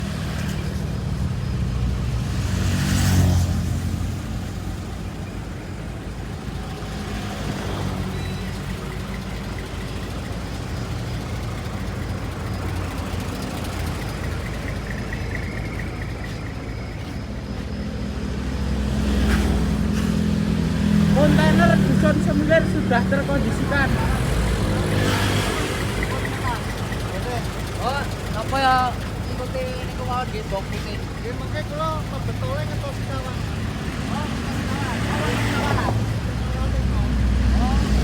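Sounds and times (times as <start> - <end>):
heavy truck engine running: 0.0 - 38.0.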